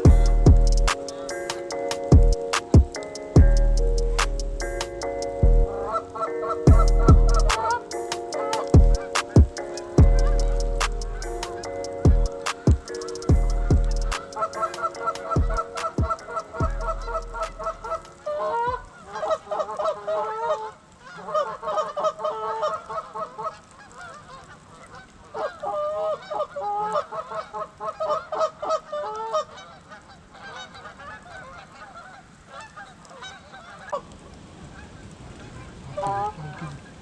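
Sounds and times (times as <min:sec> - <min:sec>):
geese honking: 0:00.0 - 0:03.2, 0:03.8 - 0:34.0.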